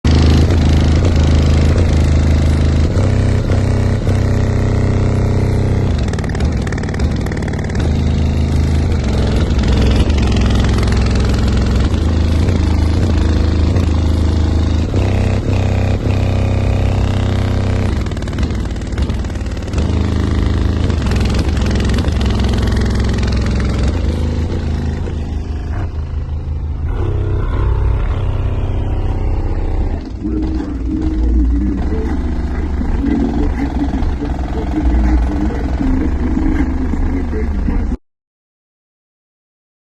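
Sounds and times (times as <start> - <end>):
deep bass music from subwoofers: 0.1 - 38.0.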